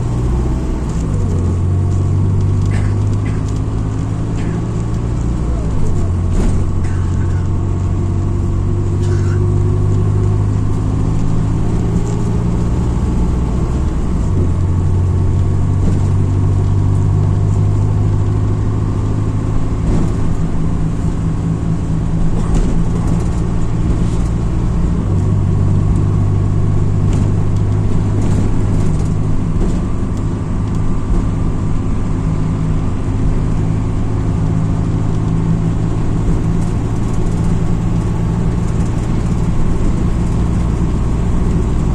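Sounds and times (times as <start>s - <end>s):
bus engine running: 0.0s - 41.9s
body rattles and knocks: 0.4s - 12.6s, 14.0s - 33.8s, 34.4s - 41.9s.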